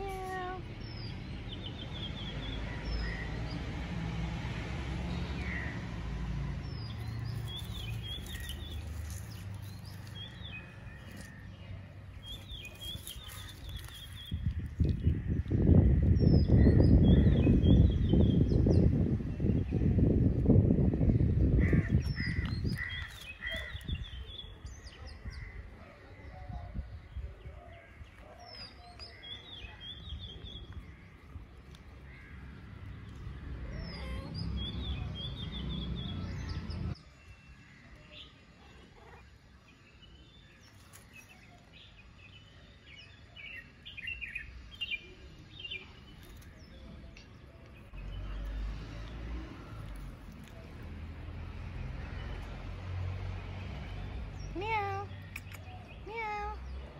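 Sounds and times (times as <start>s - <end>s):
birds chirping: 6.4s - 20.2s, 20.8s - 56.9s.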